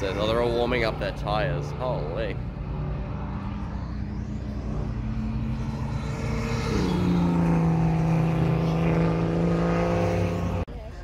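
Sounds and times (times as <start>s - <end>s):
car engine on race track: 0.0s - 11.0s.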